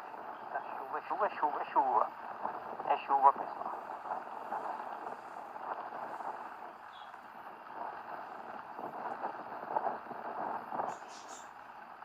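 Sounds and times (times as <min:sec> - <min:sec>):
steady rain falling: 0:01.3 - 0:12.0.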